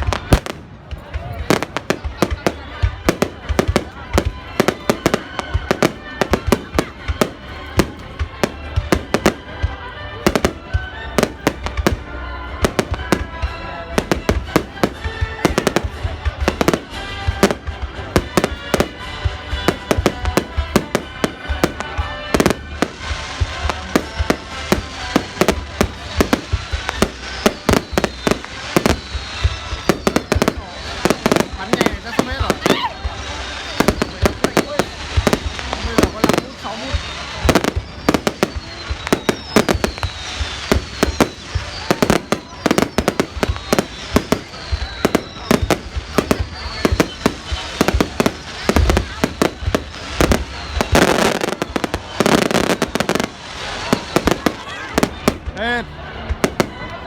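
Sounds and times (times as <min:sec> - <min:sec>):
firework hiss and whistling: 0:00.0 - 0:55.6
firework bangs: 0:00.0 - 0:57.0
music: 0:00.0 - 0:57.0.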